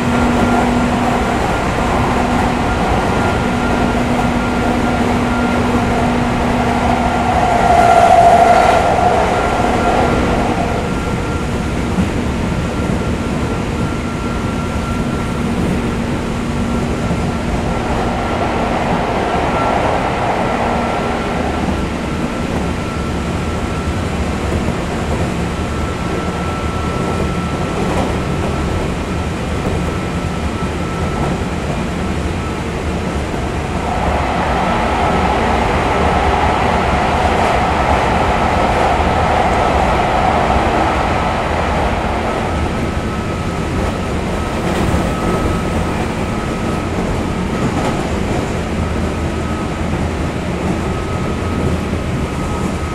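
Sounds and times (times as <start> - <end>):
train wheels and motors rumbling: 0.0 - 52.9.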